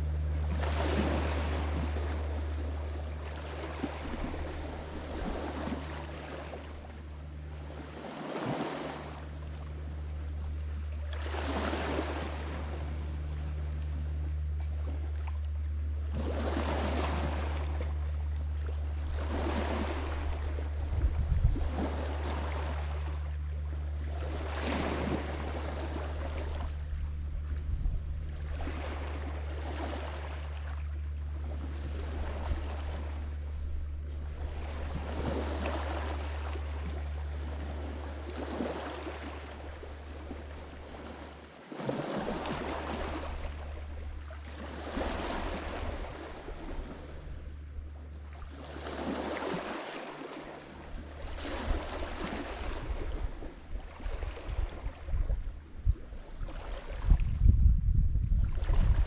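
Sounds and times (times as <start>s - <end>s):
waves breaking on shore: 0.0s - 57.4s, 58.4s - 59.0s
steady low rumble: 0.0s - 59.0s.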